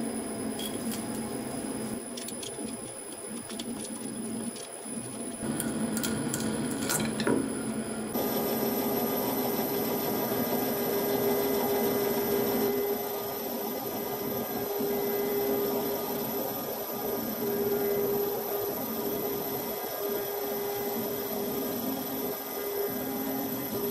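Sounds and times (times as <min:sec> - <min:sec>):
lathe humming: 0:00.0 - 0:23.9.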